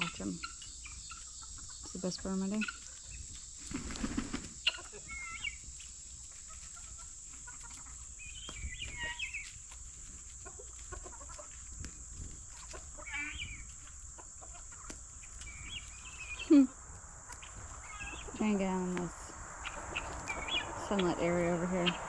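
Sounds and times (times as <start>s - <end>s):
chickens and guinea fowl clucking: 0.0s - 22.0s.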